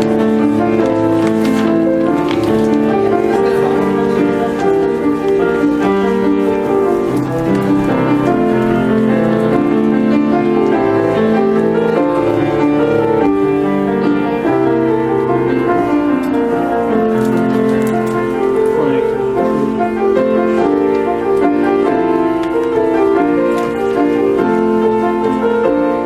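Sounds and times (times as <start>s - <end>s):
keyboard playing slow chords: 0.0s - 26.0s.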